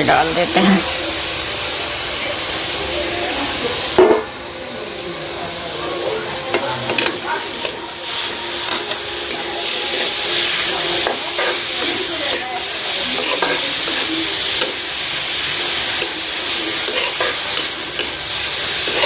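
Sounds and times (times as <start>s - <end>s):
food sizzling in pan: 0.0s - 19.0s.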